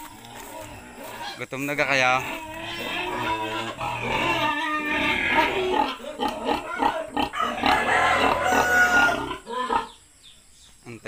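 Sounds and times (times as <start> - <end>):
pigs squealing and grunting: 0.0 - 10.0.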